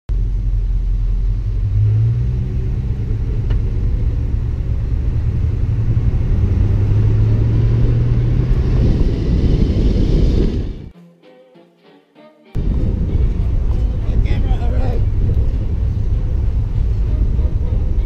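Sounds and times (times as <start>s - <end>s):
car engine rumbling: 0.1s - 10.9s, 12.6s - 18.0s.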